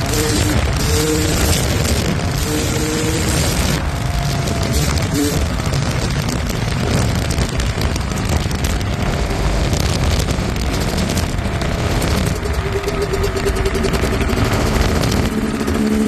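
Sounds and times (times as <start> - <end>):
vehicle engine running loud: 0.0 - 16.0.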